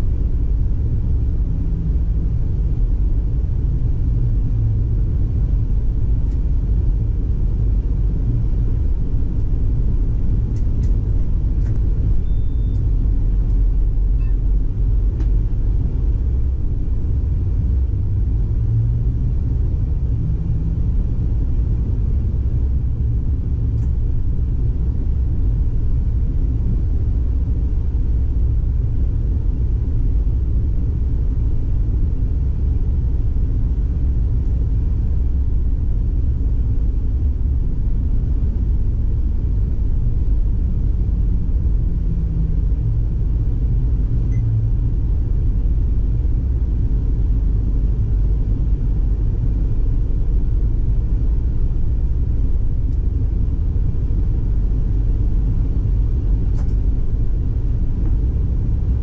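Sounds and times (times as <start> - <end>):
tram running low rumble: 0.0 - 59.0.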